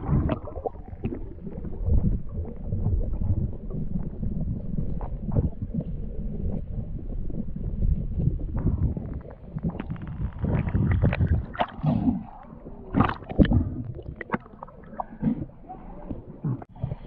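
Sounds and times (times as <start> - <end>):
low rumble: 0.0 - 16.7
water gurgling and sloshing: 0.0 - 17.0.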